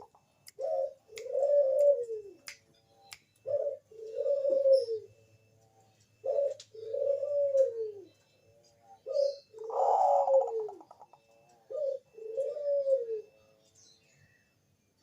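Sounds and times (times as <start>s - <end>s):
dove cooing: 0.0s - 2.5s, 3.4s - 13.5s.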